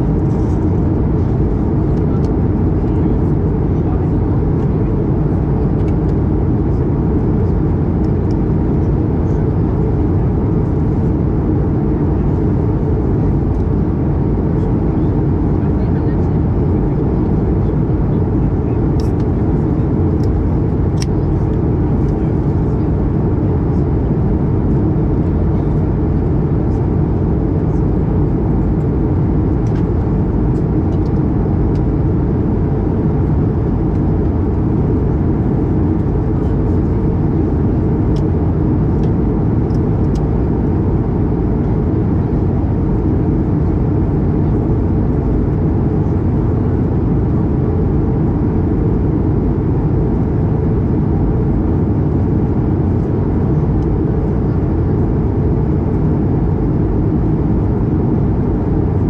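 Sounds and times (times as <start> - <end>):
airliner cabin noise: 0.0 - 59.0.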